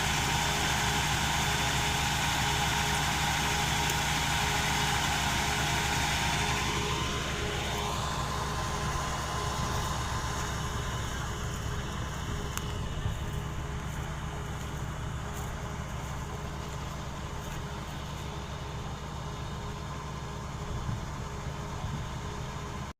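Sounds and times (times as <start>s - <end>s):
heavy engine running: 0.0s - 22.9s.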